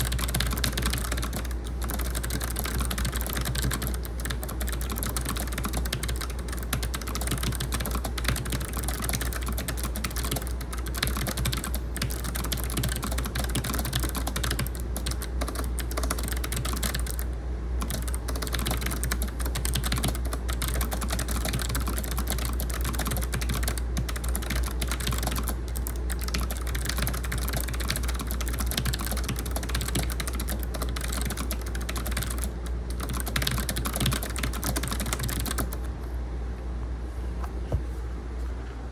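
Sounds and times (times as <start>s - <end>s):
fast typing on clicky keyboard: 0.0s - 35.9s
air-conditioner hum: 0.0s - 38.9s.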